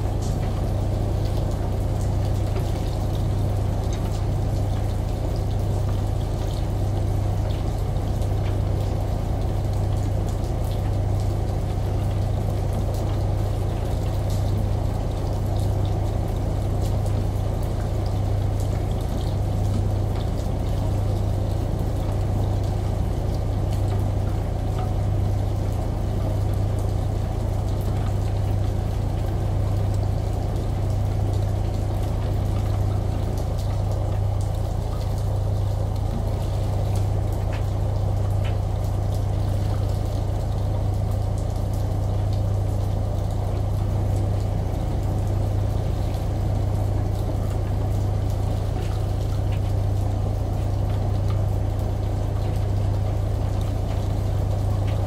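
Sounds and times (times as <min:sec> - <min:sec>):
rain falling: 0:00.0 - 0:55.0
shower water running: 0:00.0 - 0:55.0
washing machine humming: 0:00.0 - 0:55.0
dripping ticks: 0:00.1 - 0:55.0.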